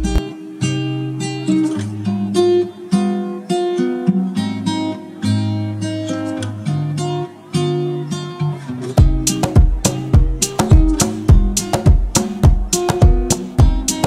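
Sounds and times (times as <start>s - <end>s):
acoustic guitar strummed and plucked: 0.0s - 14.0s.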